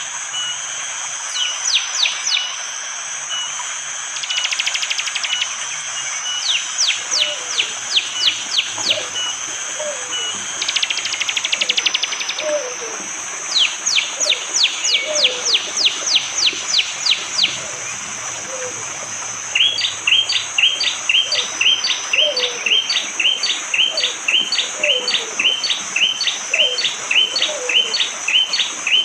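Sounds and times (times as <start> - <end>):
steady high hiss: 0.0 - 29.0
bird buzzy trills: 0.2 - 29.0.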